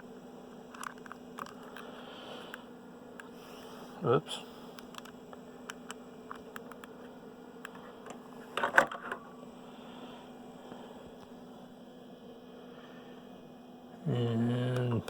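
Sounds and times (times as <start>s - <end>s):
computer equipment hum: 0.0s - 15.0s.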